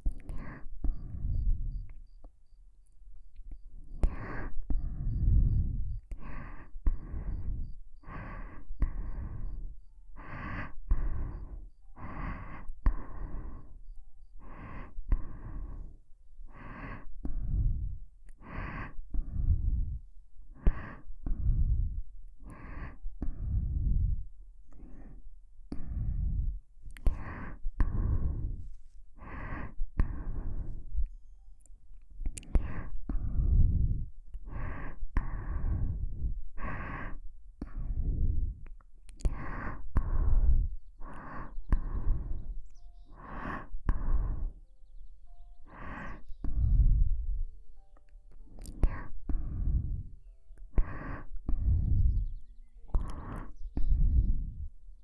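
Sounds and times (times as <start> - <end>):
slow breathing close to microphone: 0.0 - 55.0.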